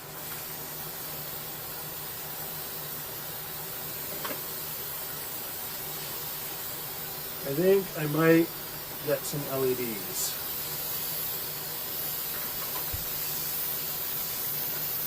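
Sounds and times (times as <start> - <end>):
paint sprayer hissing and humming: 0.0 - 15.0.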